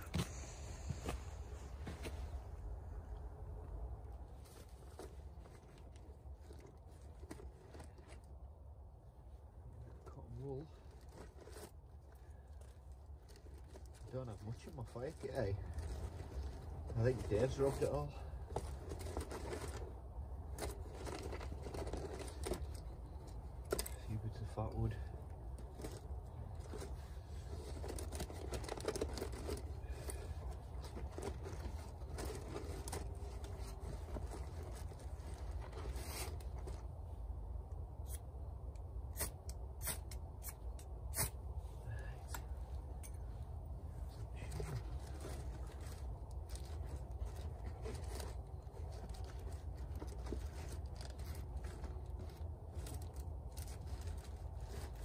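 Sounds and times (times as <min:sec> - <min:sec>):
low steady rumble: 0:00.0 - 0:55.0
rustling and crinkling: 0:00.0 - 0:55.0.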